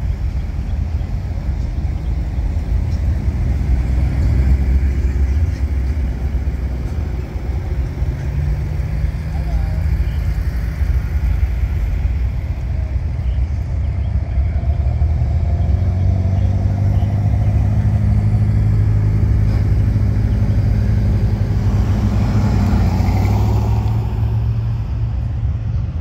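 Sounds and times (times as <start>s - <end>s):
cars driving past: 0.0s - 26.0s
pickup truck engine rumble: 0.0s - 26.0s.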